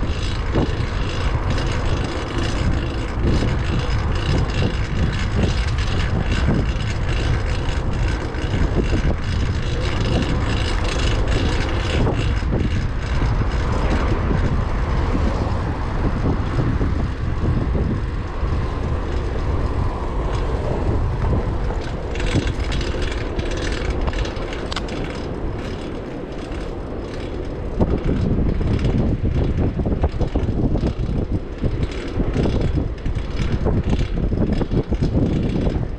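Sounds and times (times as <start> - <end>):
high whine from bike drivetrain: 0.0 - 35.9
road rumble: 0.0 - 35.9
wind buffeting microphone: 0.0 - 35.9.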